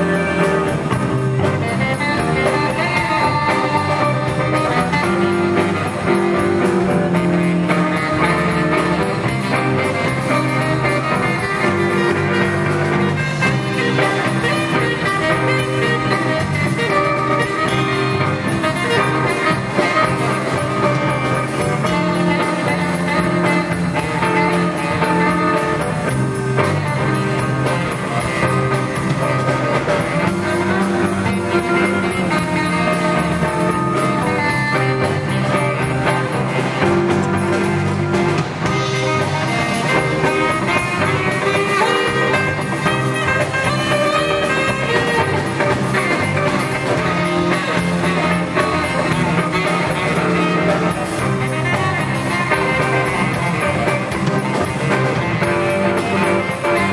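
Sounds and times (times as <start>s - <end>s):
live blues-rock band playing: 0.0s - 56.9s.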